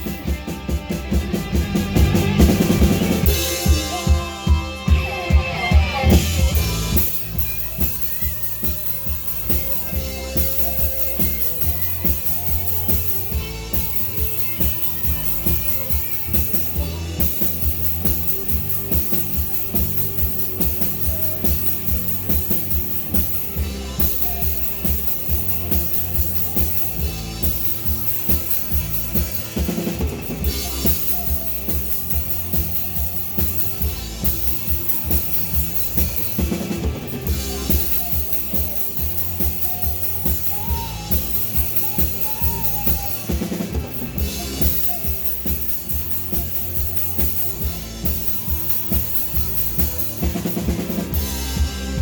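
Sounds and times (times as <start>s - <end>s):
drum kit kick and snare: 0.0s - 52.0s
live rock band instrumental: 0.0s - 52.0s.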